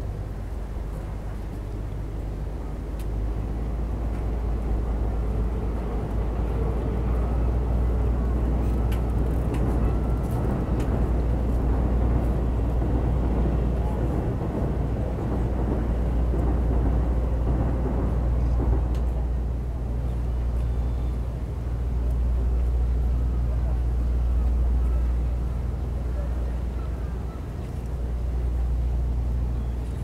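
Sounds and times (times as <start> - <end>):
city road traffic rumble: 0.0 - 30.0.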